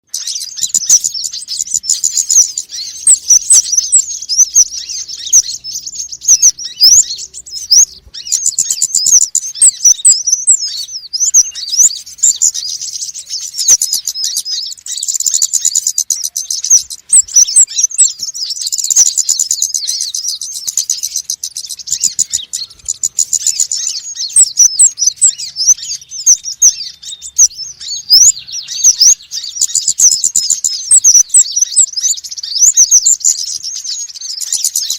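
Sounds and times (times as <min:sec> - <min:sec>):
sunbirds chirping rapidly: 0:00.0 - 0:34.9.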